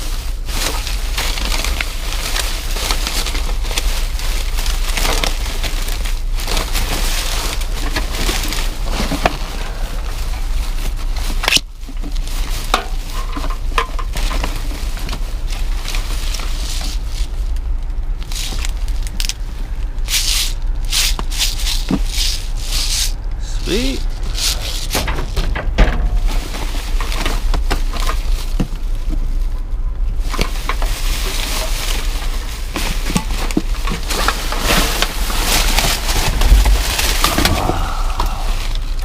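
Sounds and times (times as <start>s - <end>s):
steady low rumble: 0.0s - 39.0s
trash bags rustling and crunching: 0.0s - 39.0s.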